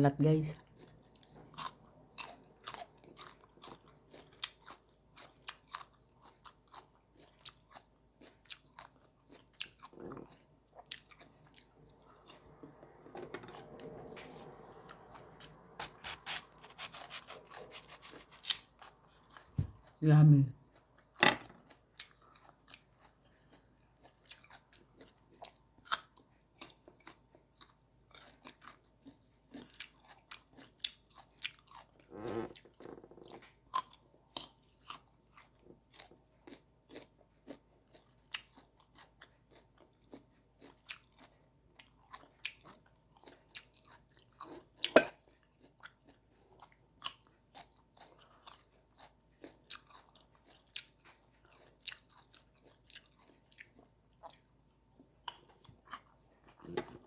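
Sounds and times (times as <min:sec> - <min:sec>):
crunchy mango being chewed: 0:00.6 - 0:57.0.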